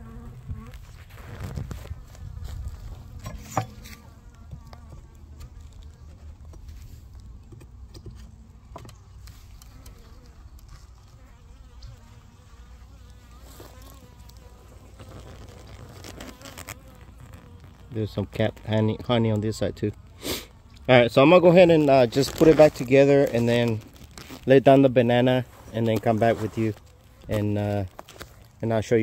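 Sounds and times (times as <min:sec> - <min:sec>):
honeybees buzzing: 0:00.0 - 0:28.8.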